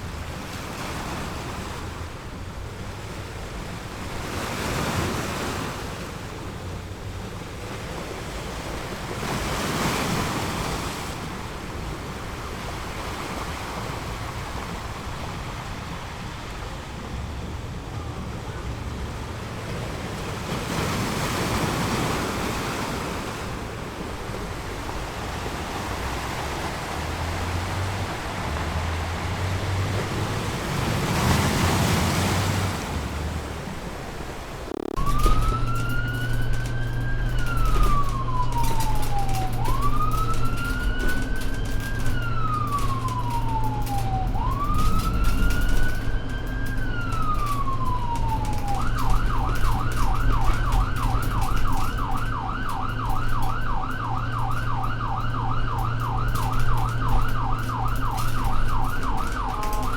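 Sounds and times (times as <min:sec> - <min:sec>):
low engine hum: 0:00.0 - 0:59.9
emergency vehicle siren: 0:07.0 - 0:59.9.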